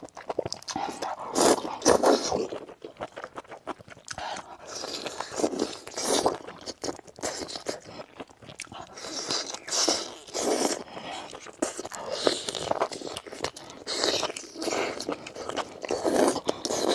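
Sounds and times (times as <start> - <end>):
crunchy chewing: 0.0 - 16.9.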